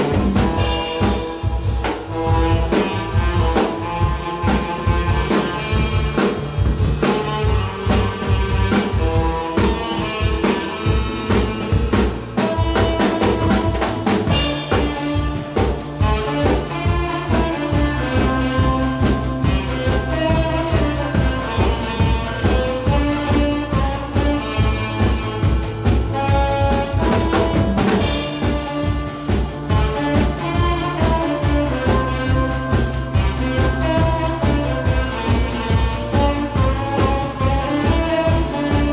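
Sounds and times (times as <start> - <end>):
drum kit beat: 0.0 - 38.9
saxophone playing: 0.0 - 38.9.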